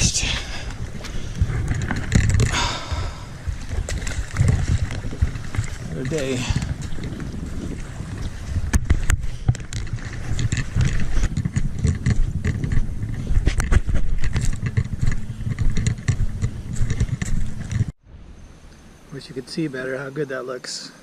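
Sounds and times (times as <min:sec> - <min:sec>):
wind buffeting microphone: 0:00.0 - 0:18.3
handling knocks and scrapes: 0:00.7 - 0:18.0.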